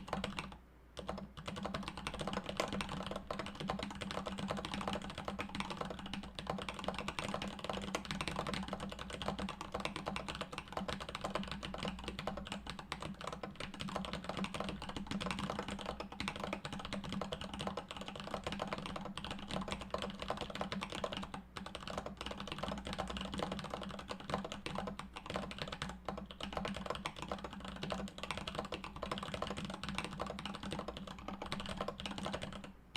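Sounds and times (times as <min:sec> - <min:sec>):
fast typing on mechanical keyboard: 0:00.0 - 0:32.7.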